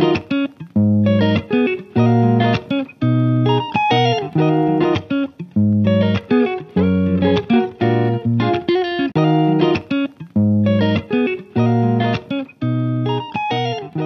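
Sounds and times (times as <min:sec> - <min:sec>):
guitar playing chords: 0:00.0 - 0:14.0.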